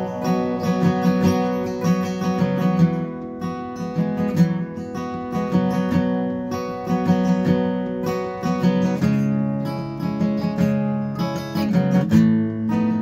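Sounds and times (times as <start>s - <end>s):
acoustic guitar chords strummed: 0.0s - 13.0s.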